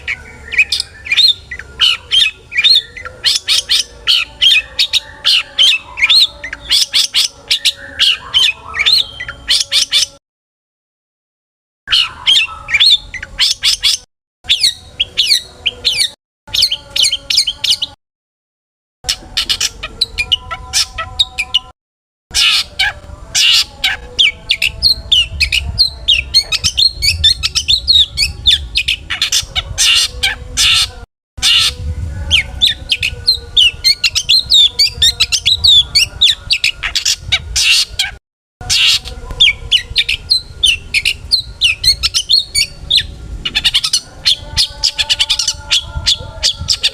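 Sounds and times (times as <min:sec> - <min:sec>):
bird singing chirps and trills: 0:00.0 - 0:10.2, 0:11.9 - 0:18.0, 0:19.0 - 0:46.9.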